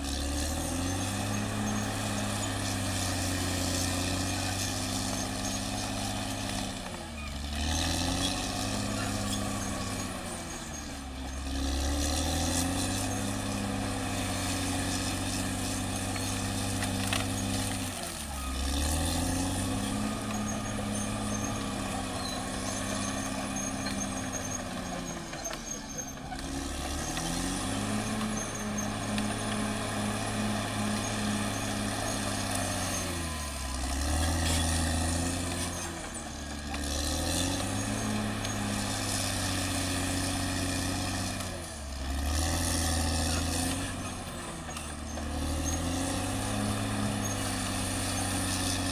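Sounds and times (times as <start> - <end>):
bulldozer diesel engine working: 0.0 - 48.9.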